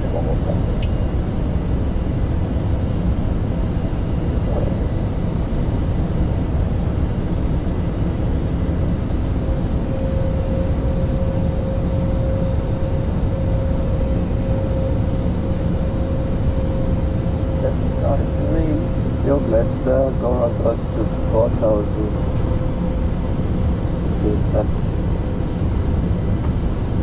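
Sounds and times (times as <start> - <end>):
engine and air-conditioning hum: 0.0 - 27.0.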